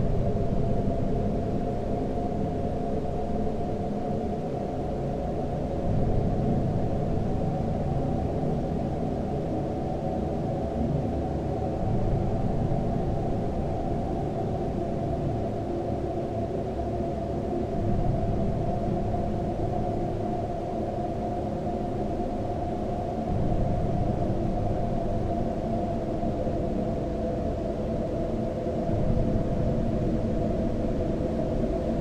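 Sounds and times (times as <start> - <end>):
low ambient drone rumble: 0.0 - 32.0.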